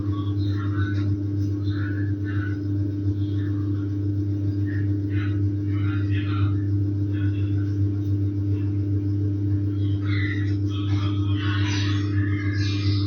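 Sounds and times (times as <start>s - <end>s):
loud low hum: 0.0s - 13.0s.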